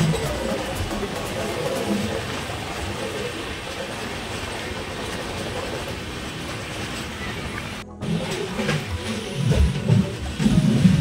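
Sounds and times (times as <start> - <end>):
train wheels rattling on track: 0.0 - 11.0.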